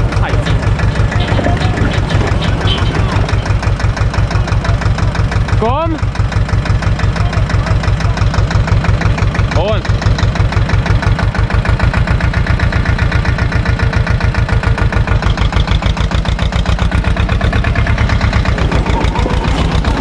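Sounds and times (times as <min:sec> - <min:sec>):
tractor diesel engine chugging: 0:00.0 - 0:20.0.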